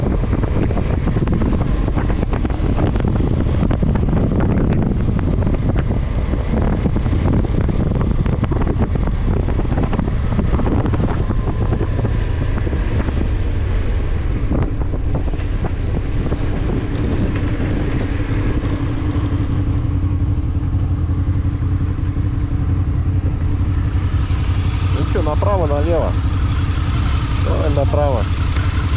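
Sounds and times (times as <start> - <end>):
motorcycle engine running: 0.0 - 28.9
wind buffeting microphone: 0.0 - 28.9.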